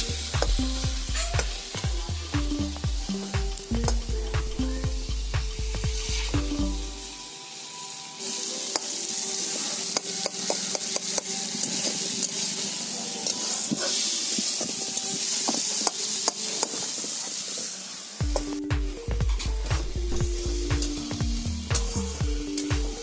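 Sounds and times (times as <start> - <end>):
fish frying in oil: 0.0 - 23.0.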